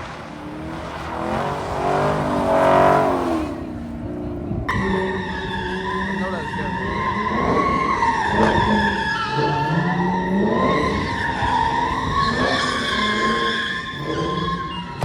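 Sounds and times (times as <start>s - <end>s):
car engine revving: 0.0s - 15.0s
car tires squealing: 0.0s - 15.0s.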